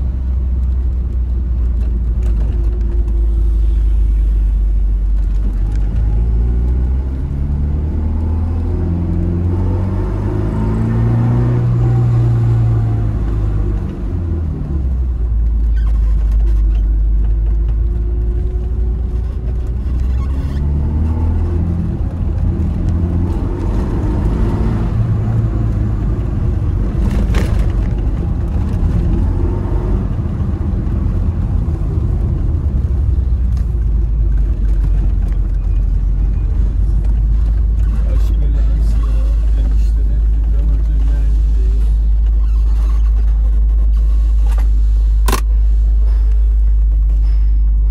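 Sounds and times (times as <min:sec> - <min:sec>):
car engine and exhaust: 0:00.0 - 0:47.9.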